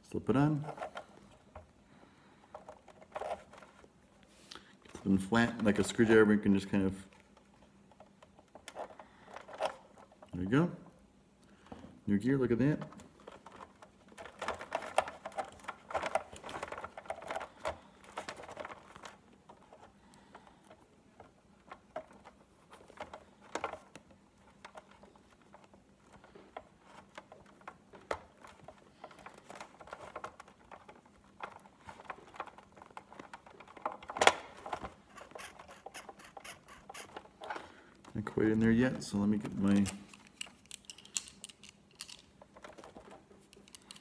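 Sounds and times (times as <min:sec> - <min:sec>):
plastic parts clicking and scraping: 0:00.4 - 0:04.2, 0:04.8 - 0:10.6, 0:12.6 - 0:44.0.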